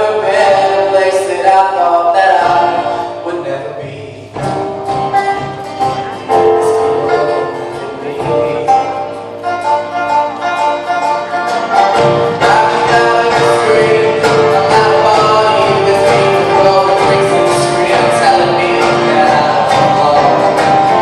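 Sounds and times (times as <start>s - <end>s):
live band with singing and guitar: 0.0s - 21.0s.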